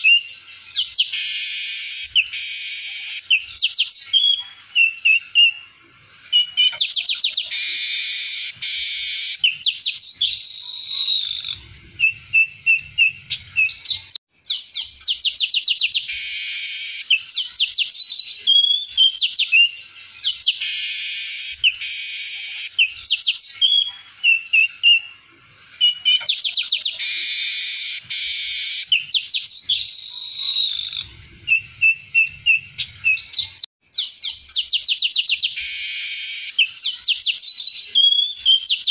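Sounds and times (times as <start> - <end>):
weaver bird singing: 0.0 - 38.9.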